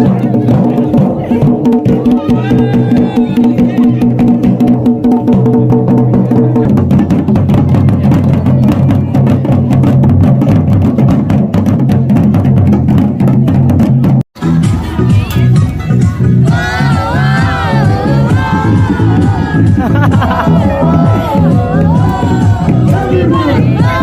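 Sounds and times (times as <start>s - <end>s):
fast dense drumming: 0.0s - 14.2s, 16.4s - 24.0s.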